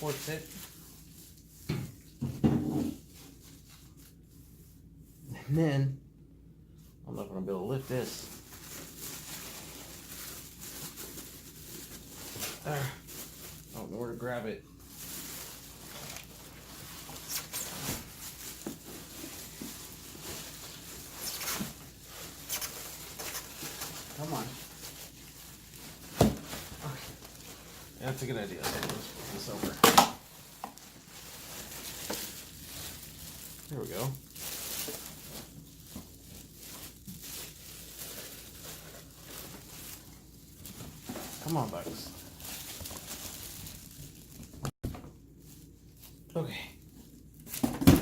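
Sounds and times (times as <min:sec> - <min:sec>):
packaging rustling and crinkling: 0:00.0 - 0:02.3, 0:07.8 - 0:44.7.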